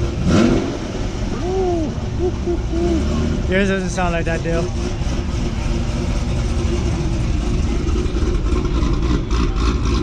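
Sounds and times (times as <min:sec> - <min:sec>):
car engine lopey idle: 0:00.0 - 0:10.0.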